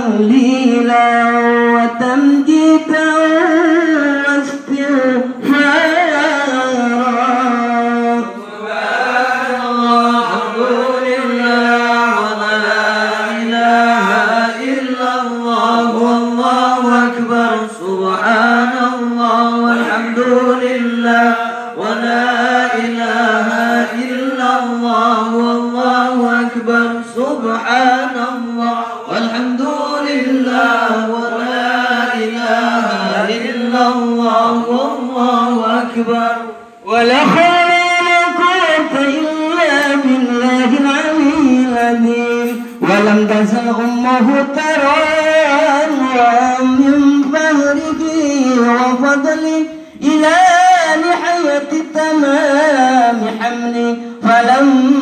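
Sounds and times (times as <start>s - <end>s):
men chanting through a microphone: 0.0s - 55.0s.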